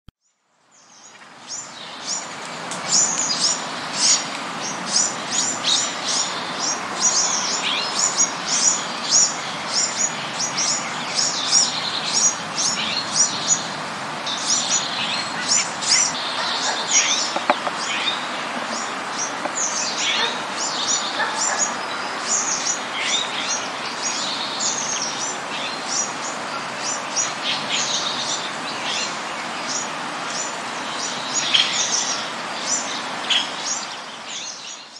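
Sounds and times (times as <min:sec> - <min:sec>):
small birds chirping: 0:00.2 - 0:34.9
steady background hiss: 0:00.6 - 0:34.9.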